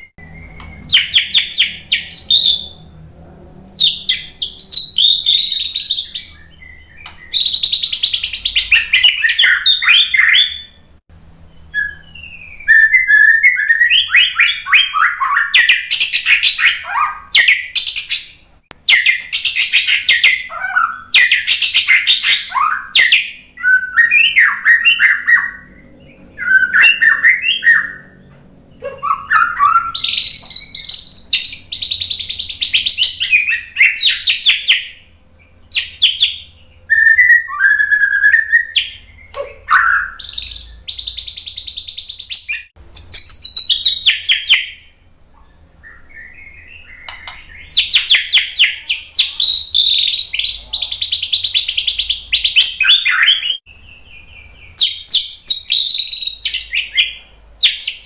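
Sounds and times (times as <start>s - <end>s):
songbird singing whistles and trills: 0.0s - 2.8s, 3.7s - 58.0s.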